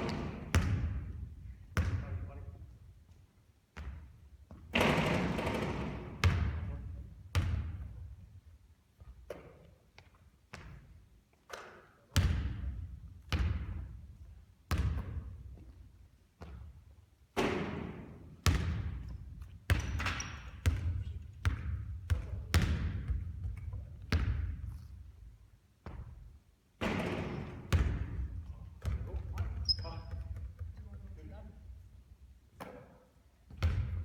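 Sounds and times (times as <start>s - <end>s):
basketball bouncing with echo: 0.0s - 2.6s, 3.7s - 8.3s, 9.0s - 11.0s, 11.6s - 24.8s, 25.8s - 31.2s, 33.4s - 34.0s.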